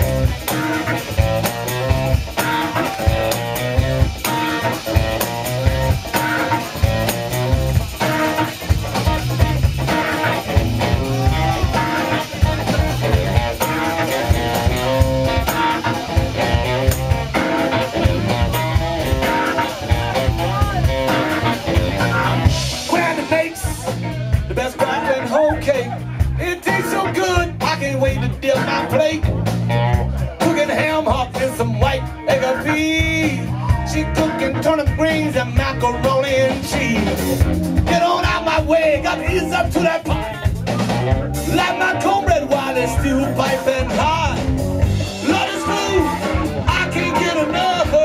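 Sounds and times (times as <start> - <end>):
drum kit beat: 0.0 - 48.0
electric guitar: 0.0 - 48.0
keyboard: 0.0 - 48.0.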